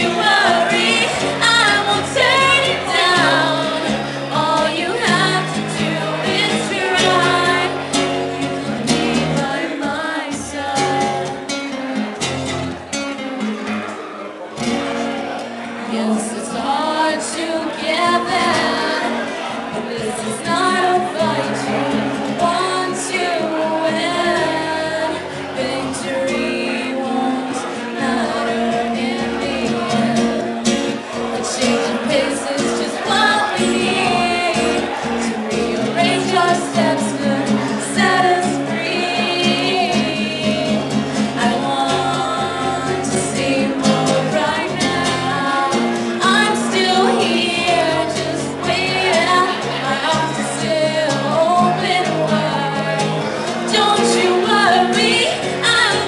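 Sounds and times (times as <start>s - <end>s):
woman singing into microphone: 0.0s - 12.1s, 15.8s - 56.0s
acoustic guitar: 0.0s - 56.0s.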